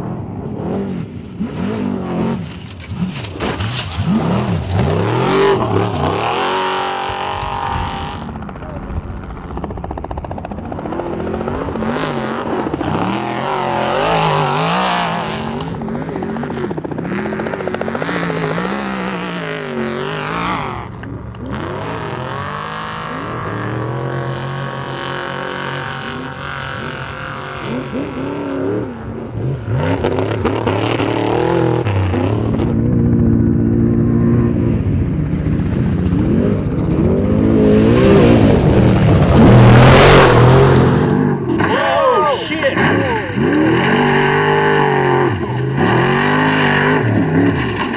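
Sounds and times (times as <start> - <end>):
truck engines revving: 0.0 - 47.9.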